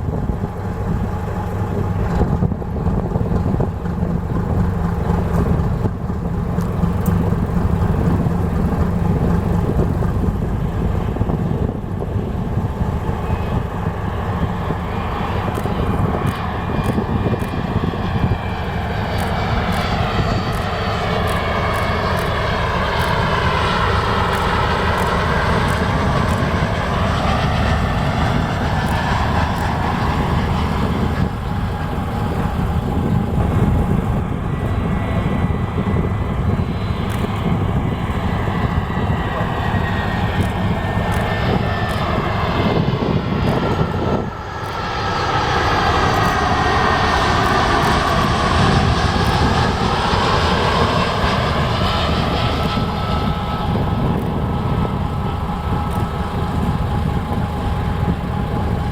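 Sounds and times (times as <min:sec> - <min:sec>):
jet airliner passing low: 0:00.0 - 0:58.9.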